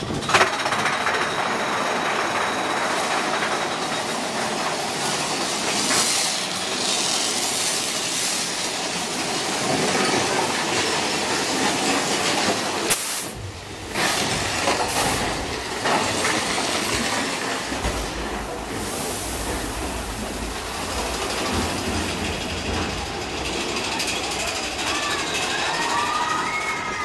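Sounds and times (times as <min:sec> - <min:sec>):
roller coaster rattling on track: 0:00.0 - 0:27.0.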